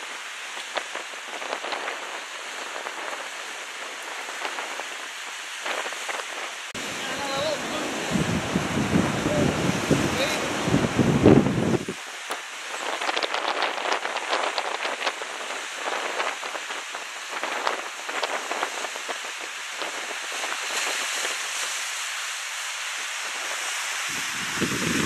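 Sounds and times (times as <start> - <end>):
crackling splashes: 0.0 - 25.0
surf hissing against rocks: 0.0 - 25.0.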